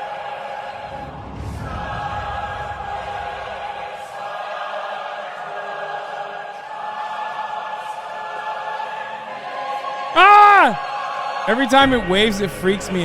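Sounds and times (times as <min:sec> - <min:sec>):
choral music: 0:00.0 - 0:13.0.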